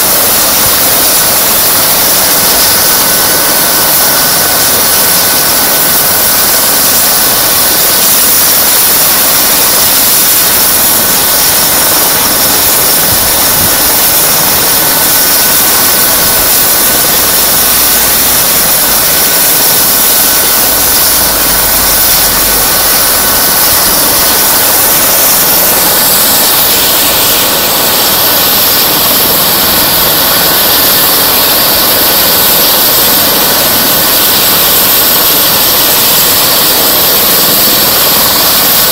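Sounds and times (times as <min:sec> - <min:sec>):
helicopter turbine whine: 0:00.0 - 0:38.9
strong high hiss: 0:00.0 - 0:38.9.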